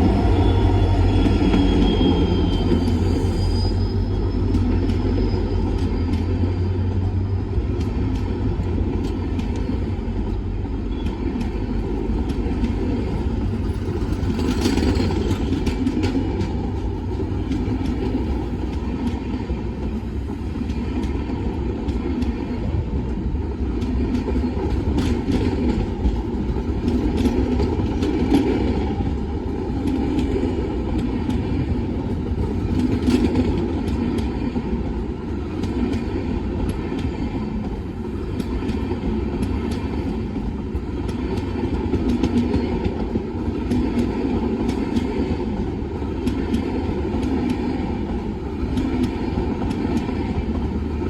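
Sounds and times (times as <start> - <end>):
train rumbling past: 0.0 - 51.0
wheels clacking on rails: 0.0 - 51.0.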